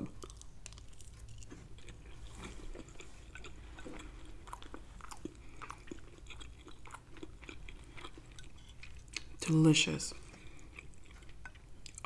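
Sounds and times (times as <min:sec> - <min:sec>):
person chewing with wet mouth clicks: 0:00.0 - 0:09.4, 0:10.3 - 0:12.0.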